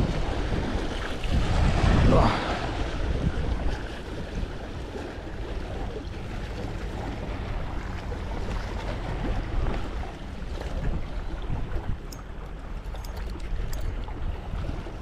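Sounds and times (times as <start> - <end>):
sea washing on rocky shore: 0.0 - 15.0
wind on microphone: 0.0 - 15.0.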